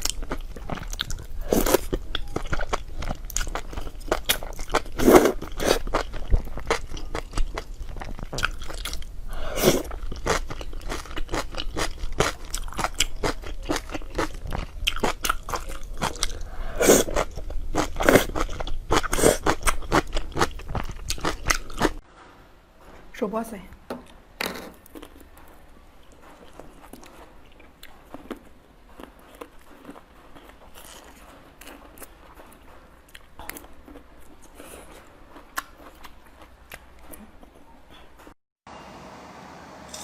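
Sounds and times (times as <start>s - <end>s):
person chewing crunchy food: 0.0s - 22.0s, 24.8s - 38.2s.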